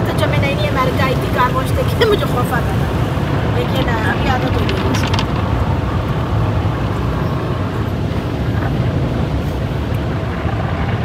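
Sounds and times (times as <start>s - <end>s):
car wash rushing noise: 0.0s - 11.0s.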